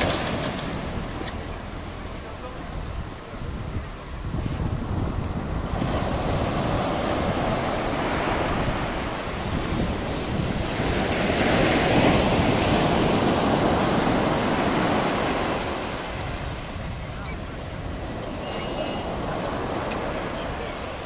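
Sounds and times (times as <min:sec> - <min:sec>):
surf breaking on beach: 0:00.0 - 0:21.0
wind rumbling on microphone: 0:00.0 - 0:21.0.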